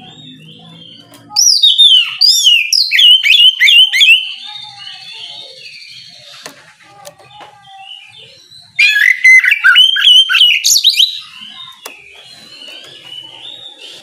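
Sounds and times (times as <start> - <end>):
bird singing whistled notes: 0.0 - 6.4, 7.8 - 14.0.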